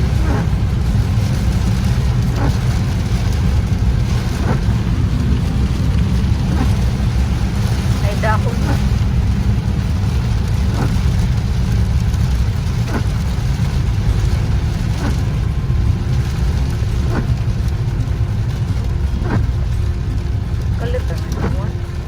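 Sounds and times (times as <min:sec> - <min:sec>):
car driving through heavy rain: 0:00.0 - 0:22.0
windshield wipers sweeping: 0:00.0 - 0:22.0.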